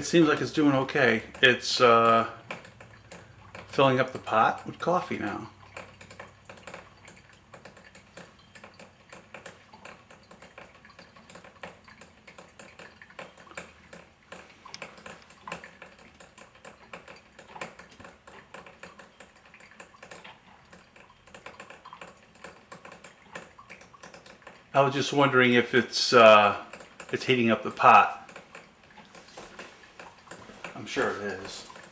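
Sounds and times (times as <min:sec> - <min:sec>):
coffee maker crackling: 0:00.0 - 0:31.9.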